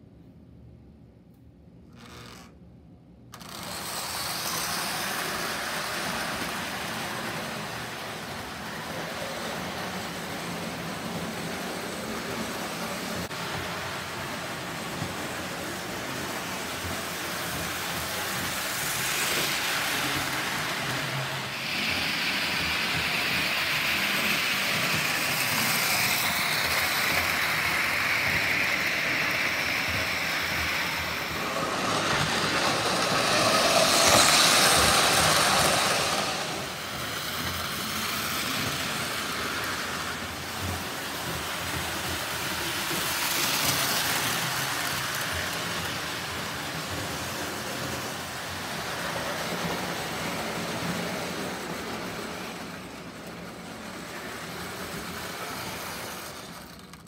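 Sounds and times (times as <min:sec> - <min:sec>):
model train rumbling on track: 0:03.3 - 0:57.0.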